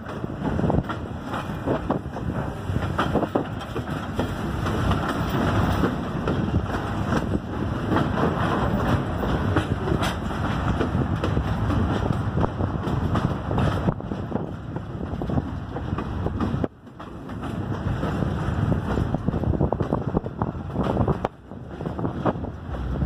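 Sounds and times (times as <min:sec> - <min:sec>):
train rumbling past: 0:00.0 - 0:23.0
wheels clacking over rail joints: 0:00.0 - 0:23.0
wind buffeting microphone: 0:00.0 - 0:23.0.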